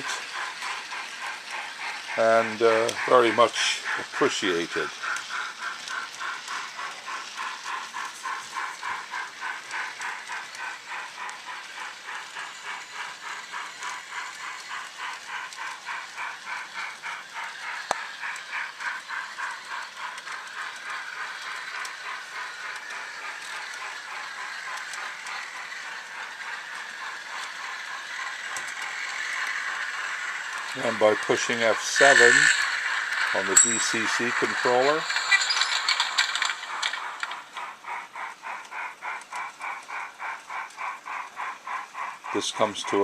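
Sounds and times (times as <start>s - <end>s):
model steam locomotive chuffs: 0.0s - 43.0s.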